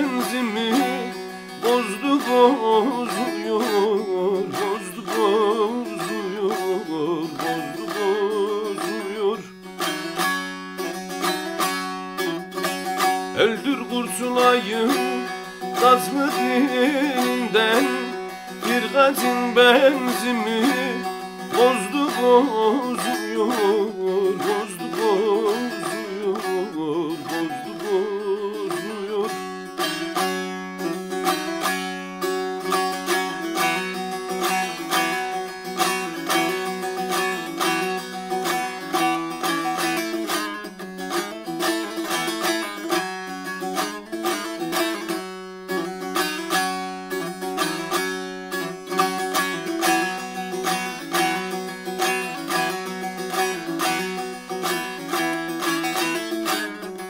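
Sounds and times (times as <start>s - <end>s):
plucked long-necked lute: 0.0s - 57.0s.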